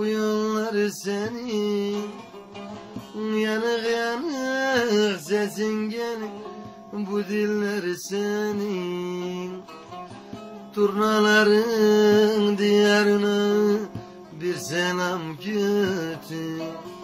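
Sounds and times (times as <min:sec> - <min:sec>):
man singing: 0:00.0 - 0:09.9, 0:10.7 - 0:17.0
long-necked lute strummed: 0:00.0 - 0:17.0.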